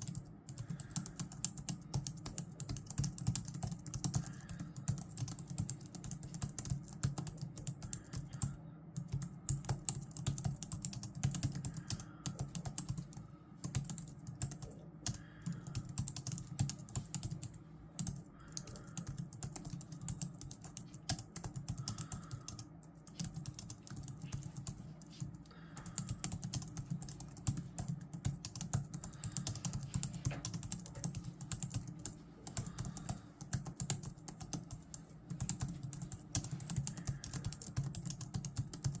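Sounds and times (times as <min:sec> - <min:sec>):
computer keyboard typing: 0:00.0 - 0:39.0.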